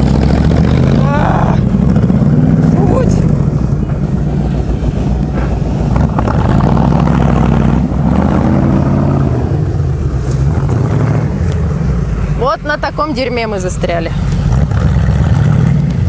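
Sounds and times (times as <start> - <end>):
engine running hard under load: 0.0 - 16.0.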